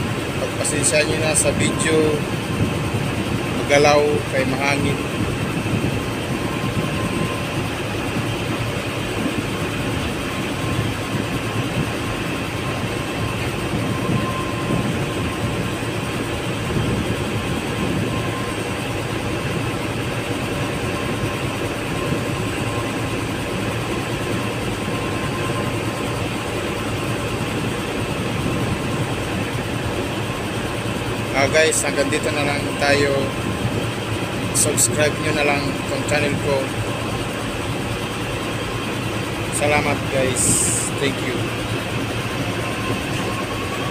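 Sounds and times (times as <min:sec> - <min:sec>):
wind buffeting microphone: 0:00.0 - 0:31.3, 0:32.0 - 0:43.9
boat engine rumbling: 0:00.0 - 0:43.9.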